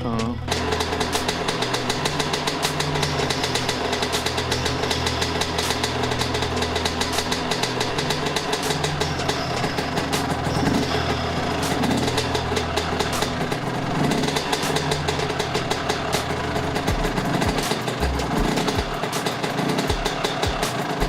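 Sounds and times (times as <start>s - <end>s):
low music beat: 0.0s - 21.0s
dirt bike engine crackling: 0.4s - 21.0s.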